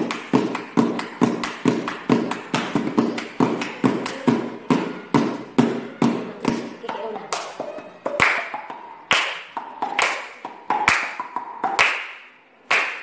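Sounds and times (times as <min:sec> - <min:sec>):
children clapping hands rhythmically: 0:00.0 - 0:13.0.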